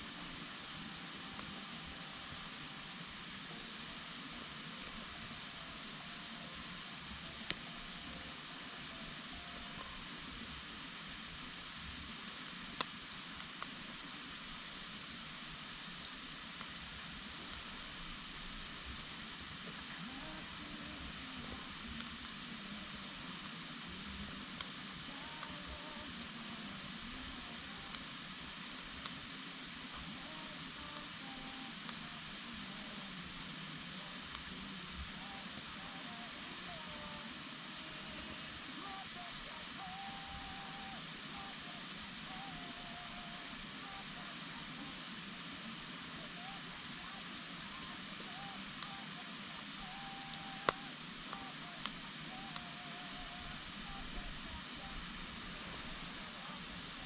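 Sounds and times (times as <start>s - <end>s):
campfire hissing: 0.0s - 57.0s
fire crackles and pops: 0.0s - 57.0s.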